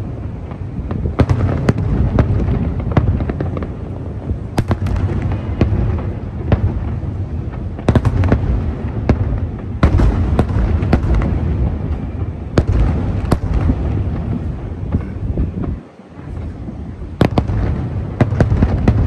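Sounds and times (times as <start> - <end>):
continuous low rumble: 0.0 - 19.0
sharp firework cracks: 0.0 - 19.0.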